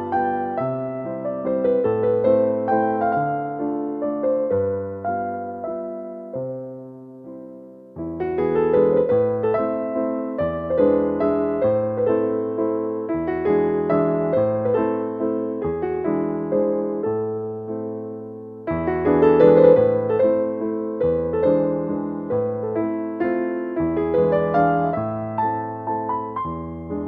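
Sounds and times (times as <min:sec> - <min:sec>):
gentle piano music: 0:00.0 - 0:27.0.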